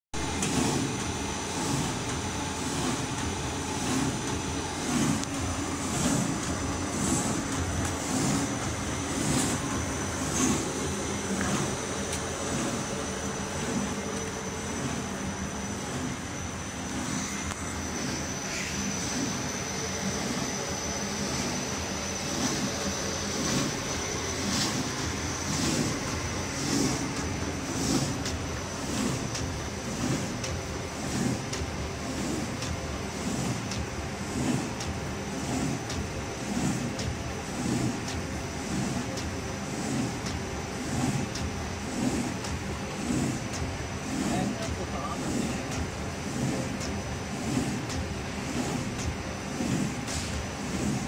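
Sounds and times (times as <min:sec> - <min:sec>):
high whine: 0:00.2 - 0:51.0
paper-cutting machine running: 0:00.2 - 0:51.0.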